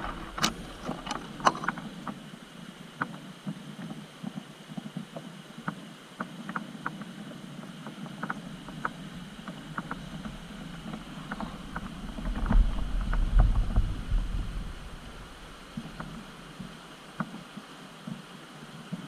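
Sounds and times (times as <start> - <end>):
wind rumble on microphone: 0.0 - 5.8, 6.4 - 19.0
steady background noise: 0.0 - 19.0.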